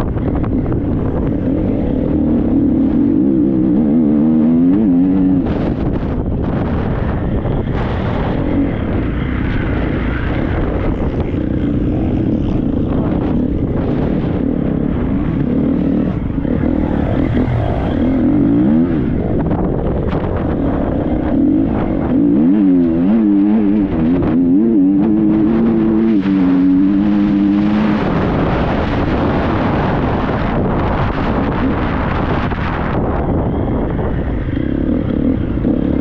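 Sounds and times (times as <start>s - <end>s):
wind rush: 0.0s - 36.0s
motocross bike engine revving: 0.1s - 36.0s.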